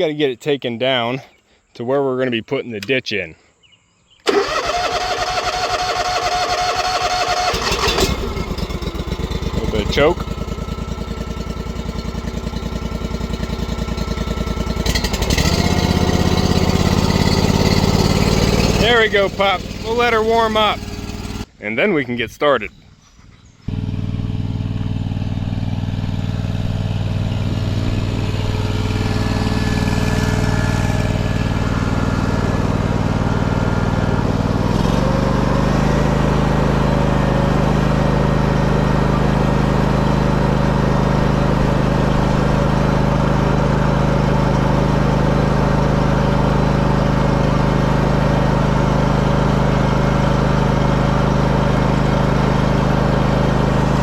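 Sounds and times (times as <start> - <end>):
small gasoline engine running: 4.3 - 21.5, 23.7 - 54.0.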